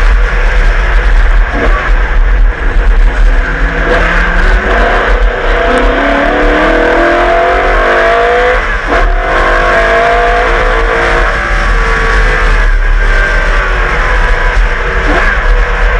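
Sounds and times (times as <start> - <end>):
race car engine accelerating: 0.0 - 15.9.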